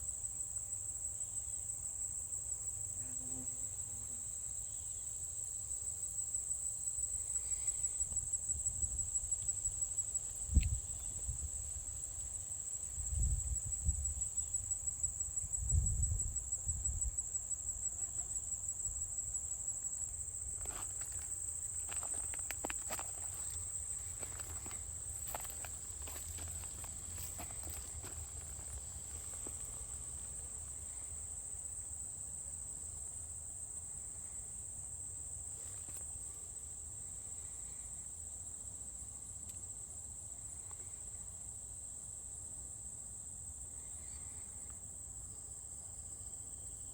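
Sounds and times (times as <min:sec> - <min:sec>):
crickets trilling: 0:00.0 - 0:46.9.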